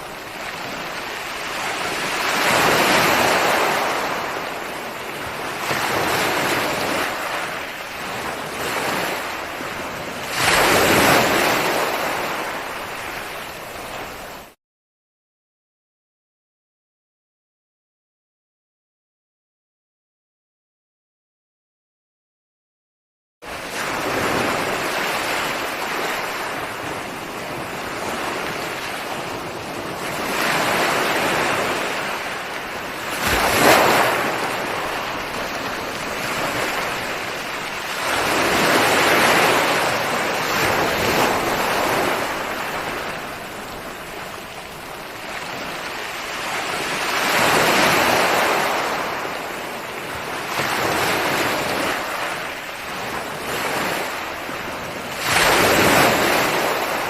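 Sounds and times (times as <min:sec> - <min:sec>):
ocean waves breaking: 0:00.0 - 0:14.6, 0:23.4 - 0:57.0.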